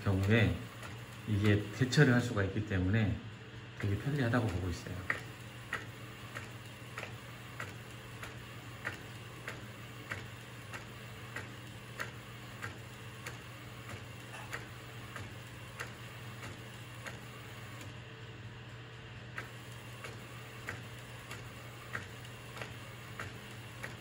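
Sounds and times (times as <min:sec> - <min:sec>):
printer low hum: 0:00.0 - 0:24.0.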